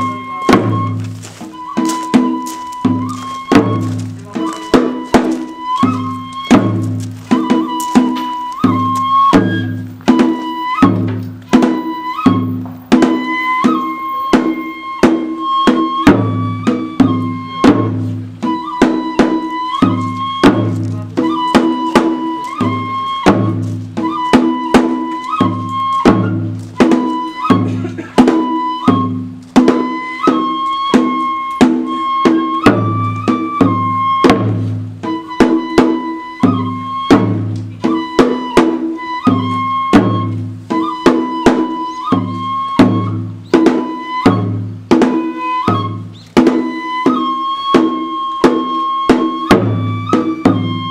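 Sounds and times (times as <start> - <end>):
bamboo flute melody: 0.0 - 50.9
taiko drum beating: 0.0 - 50.9.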